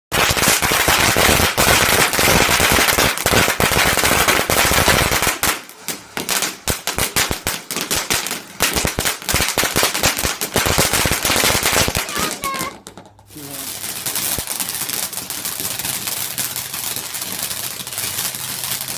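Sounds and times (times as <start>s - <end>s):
fireworks crackling and banging: 0.1s - 18.9s.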